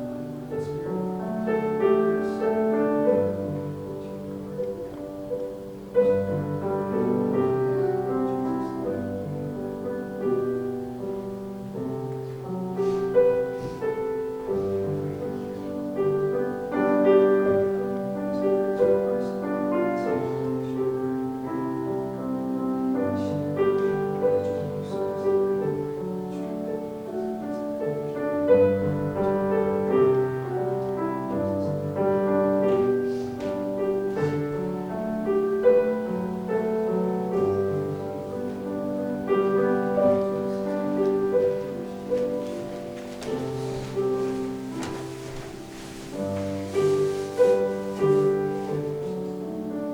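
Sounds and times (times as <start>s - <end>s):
slow gentle piano music: 0.0s - 49.9s.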